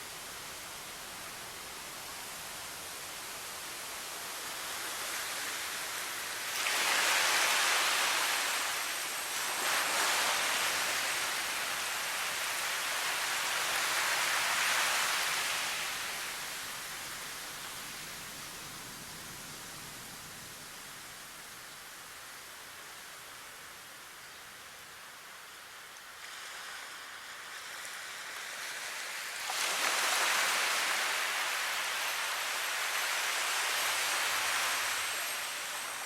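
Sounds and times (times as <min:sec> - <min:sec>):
steady rushing hiss: 0:00.0 - 0:36.0.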